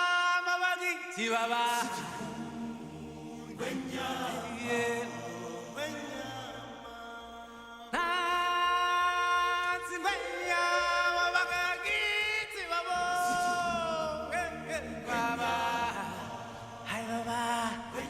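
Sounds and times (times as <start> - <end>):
person singing chant-like notes: 1.2 - 18.0.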